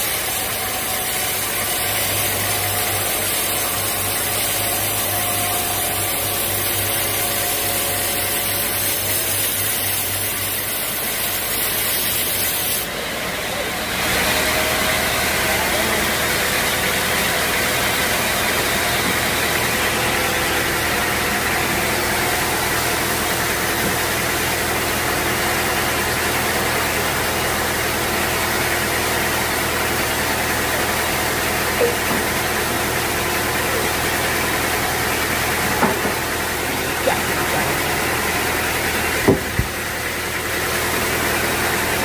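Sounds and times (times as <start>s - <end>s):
sawmill machinery hissing and humming: 0.0s - 42.0s.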